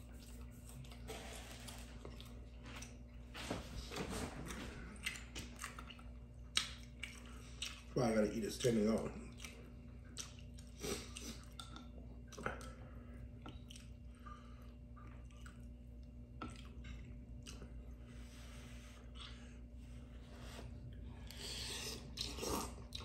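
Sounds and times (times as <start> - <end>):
soft chewing with wet smacks: 0.0 - 3.4, 4.3 - 23.0.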